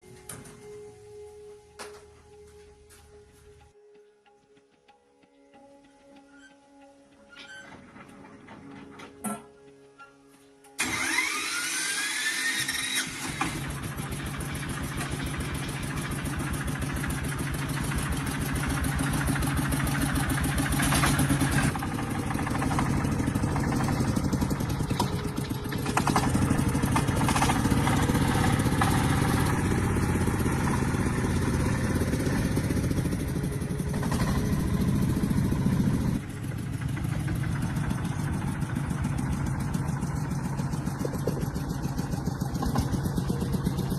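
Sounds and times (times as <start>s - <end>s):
tractor engine starting and running: 0.0s - 3.0s, 6.4s - 43.9s.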